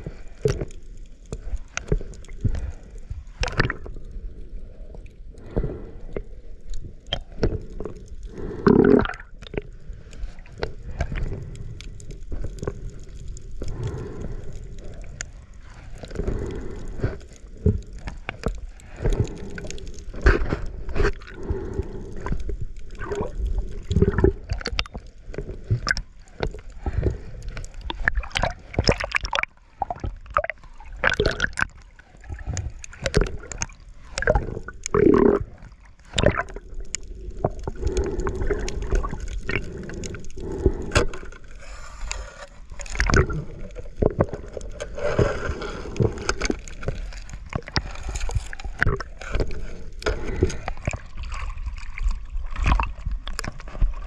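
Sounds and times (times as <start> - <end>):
water sloshing and gurgling: 0.0 - 54.0.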